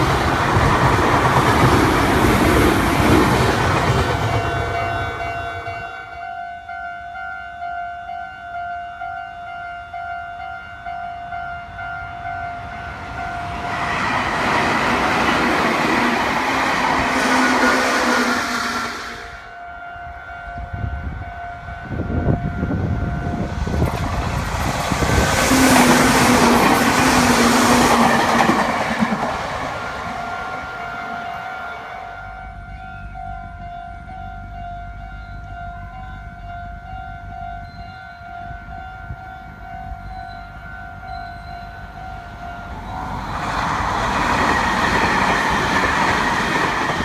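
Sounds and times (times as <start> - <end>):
crossing warning bell ringing: 0.0 - 47.0
electric trains rumbling past: 0.0 - 47.0.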